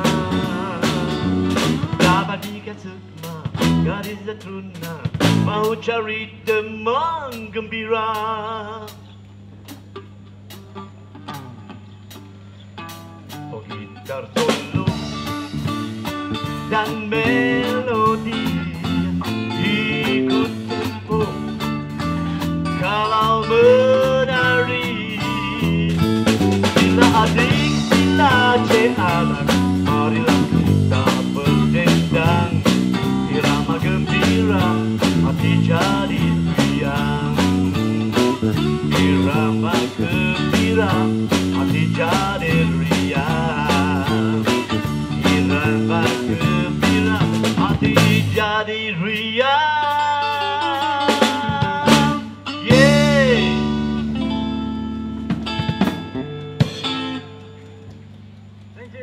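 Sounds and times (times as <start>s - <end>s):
drum kit beat: 0.0s - 5.8s, 9.7s - 48.5s, 49.2s - 57.5s
electric guitar: 0.0s - 5.8s, 8.2s - 59.0s
bass guitar: 0.0s - 59.0s.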